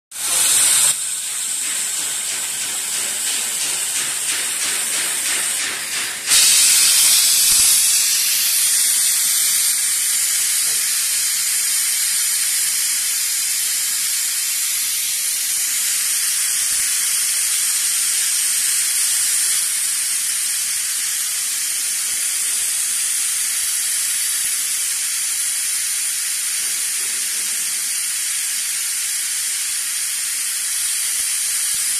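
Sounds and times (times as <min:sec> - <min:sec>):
laser cutter air hiss: 0:00.1 - 0:31.9.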